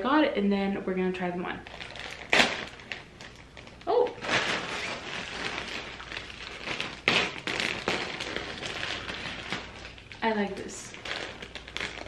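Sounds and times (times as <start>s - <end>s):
plastic bag crinkling: 1.6s - 12.0s.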